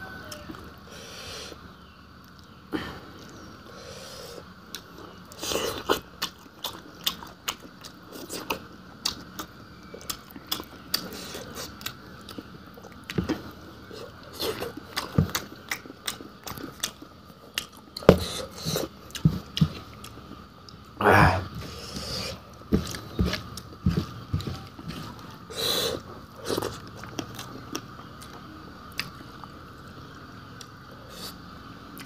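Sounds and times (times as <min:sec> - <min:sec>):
person chewing food: 0:02.2 - 0:32.0.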